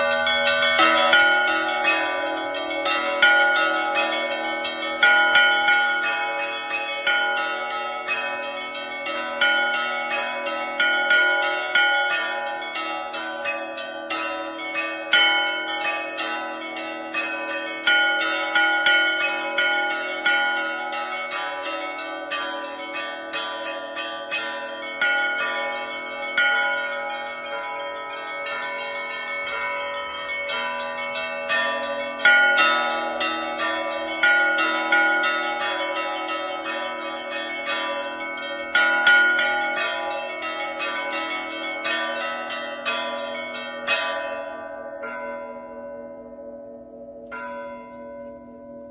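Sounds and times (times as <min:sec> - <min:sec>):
church bells pealing: 0:00.0 - 0:48.9.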